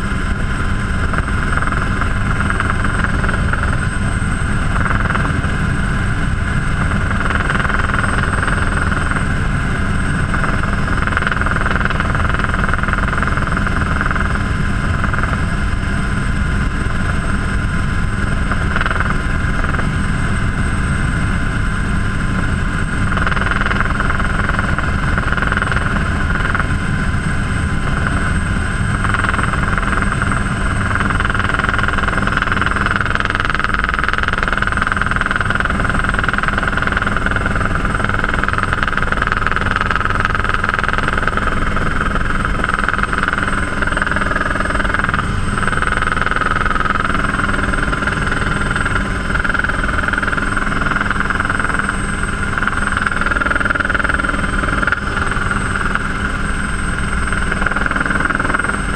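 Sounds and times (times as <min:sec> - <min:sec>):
turbine whine: 0:00.0 - 0:58.9.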